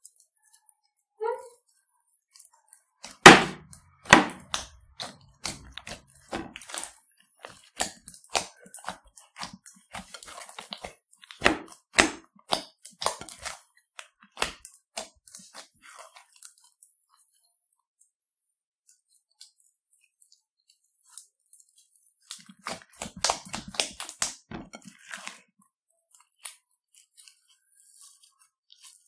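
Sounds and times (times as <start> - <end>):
slime squelching: 0.0 - 29.0.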